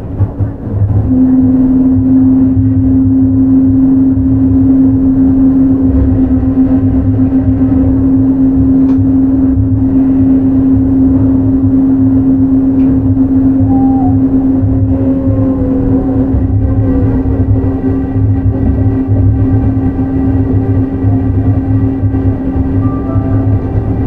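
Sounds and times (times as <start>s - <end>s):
constant hum: 0.0s - 24.0s
monorail car rumble: 0.0s - 24.0s.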